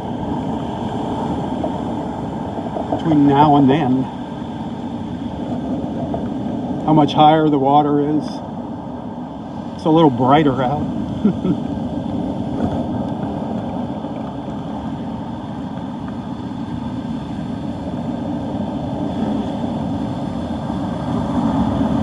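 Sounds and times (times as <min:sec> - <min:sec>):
gusty wind on microphone: 0:00.0 - 0:22.0
heavy surf breaking: 0:00.0 - 0:22.0.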